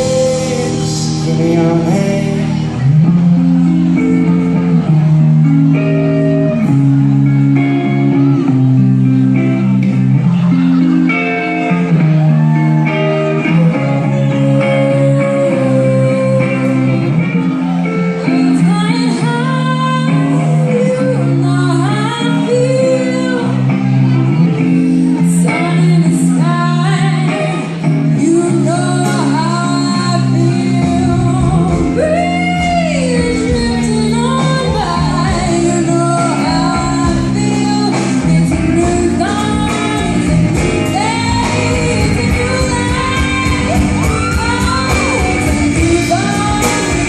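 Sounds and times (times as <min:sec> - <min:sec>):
person singing: 0:00.0 - 0:04.8, 0:10.8 - 0:47.0
electric guitar: 0:00.0 - 0:47.0
live rock band music: 0:00.0 - 0:47.0.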